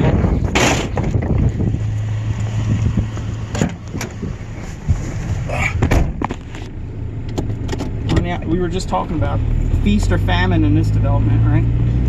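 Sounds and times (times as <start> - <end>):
vehicle engine idling: 0.0 - 11.4.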